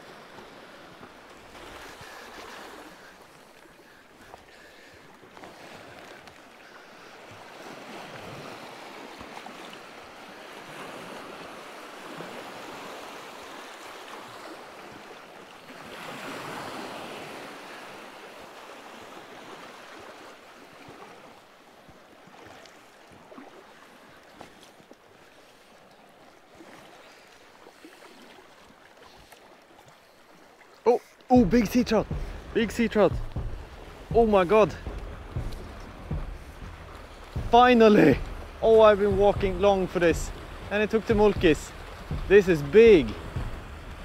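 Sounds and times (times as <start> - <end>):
waves washing over stony shore: 0.0 - 44.0.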